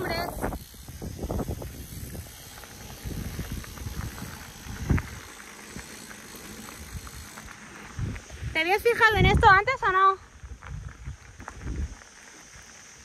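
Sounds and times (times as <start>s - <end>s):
bike tyres crunching on gravel: 0.0s - 13.0s.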